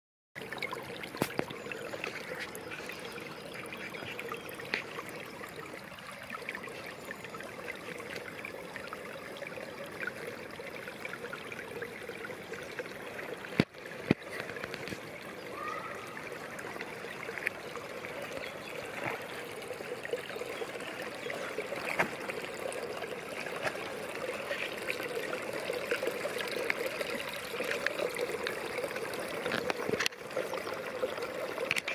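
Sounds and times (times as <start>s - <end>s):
stream trickling and gurgling: 0.4s - 31.9s.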